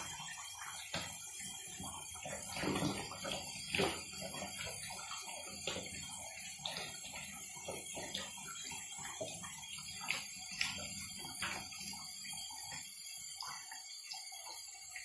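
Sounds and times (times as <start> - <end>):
shower water splashing: 0.0 - 15.0.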